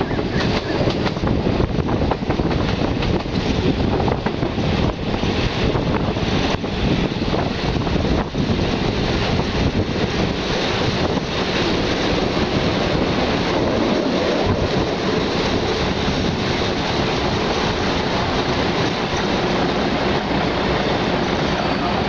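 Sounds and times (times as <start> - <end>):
train wheel and rail noise: 0.0 - 22.0
wind rushing over microphone: 0.0 - 22.0.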